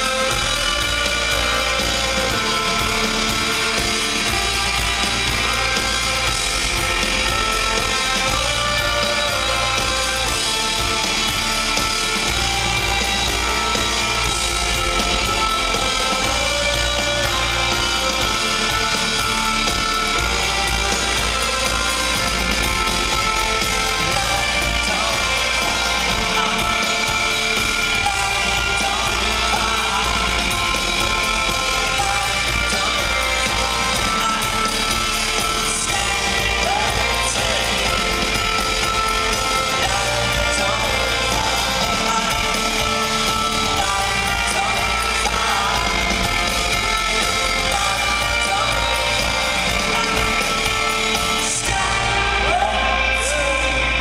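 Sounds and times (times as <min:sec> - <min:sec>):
acoustic guitars: 0:00.0 - 0:54.0
drums: 0:00.0 - 0:54.0
person singing: 0:00.0 - 0:54.0
trumpet: 0:00.0 - 0:54.0.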